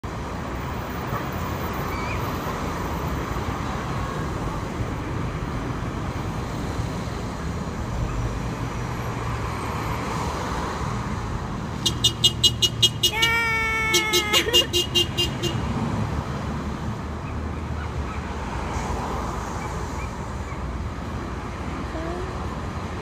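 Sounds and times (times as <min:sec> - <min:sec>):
cars driving past: 0:00.0 - 0:23.0.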